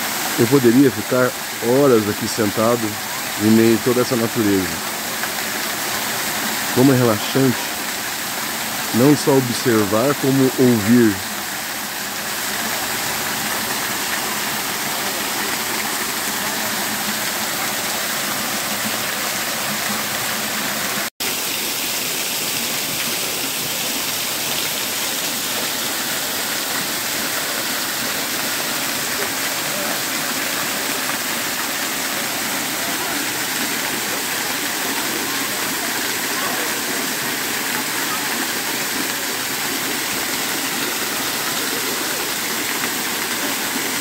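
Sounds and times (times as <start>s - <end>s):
waterfall onto stones: 0.0s - 44.0s.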